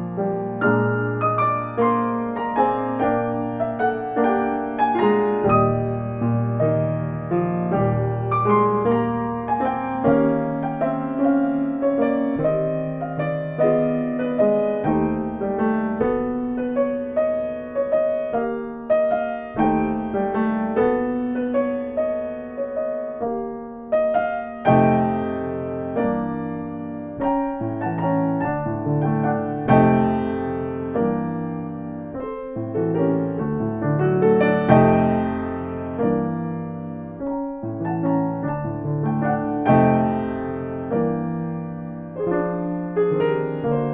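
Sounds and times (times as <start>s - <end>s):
slow piano piece: 0.0s - 43.9s.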